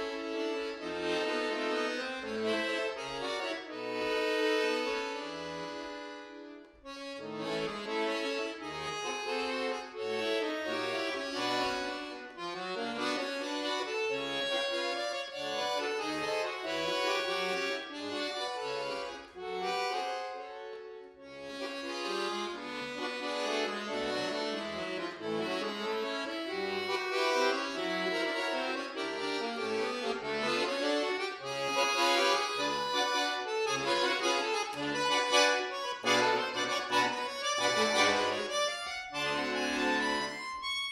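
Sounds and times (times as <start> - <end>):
button accordion playing: 0.0 - 40.9.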